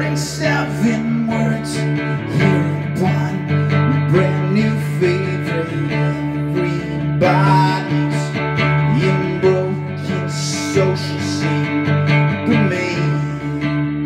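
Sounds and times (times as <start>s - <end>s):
acoustic guitar strumming: 0.0s - 14.0s
man singing into a microphone: 0.0s - 14.0s.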